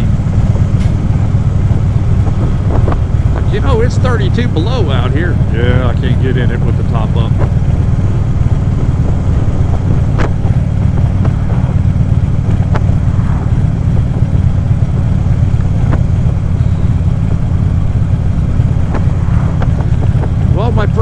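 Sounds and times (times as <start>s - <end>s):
motorcycle engine rumble: 0.0s - 21.0s
wind rush on microphone: 0.0s - 21.0s.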